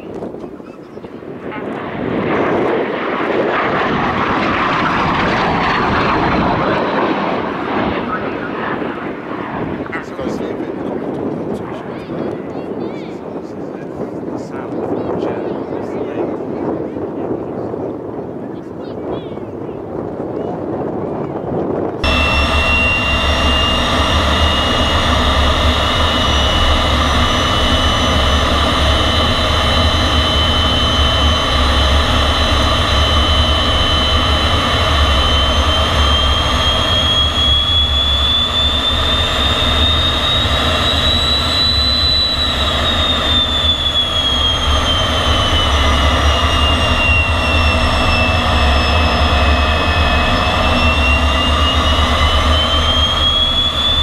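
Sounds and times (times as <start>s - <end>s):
jet engine rumble and whine: 0.0s - 54.0s.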